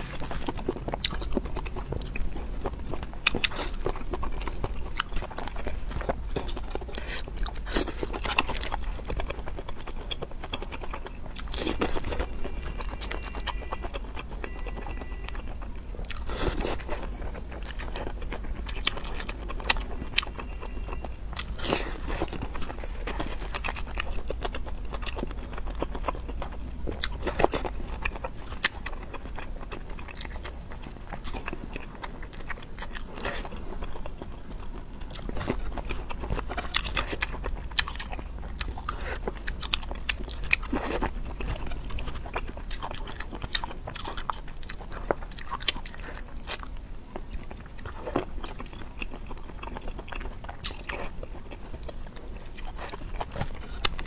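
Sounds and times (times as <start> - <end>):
low steady hum: 0.0 - 54.0
person chewing food: 0.0 - 54.0.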